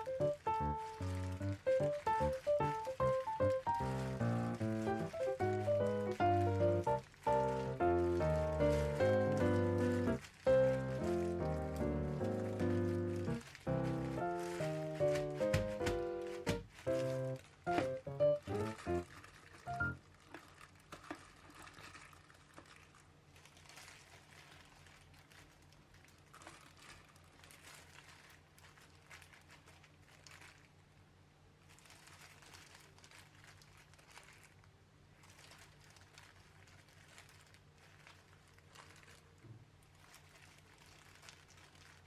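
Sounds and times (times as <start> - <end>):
faint crinkling and rustling: 0.0 - 42.0.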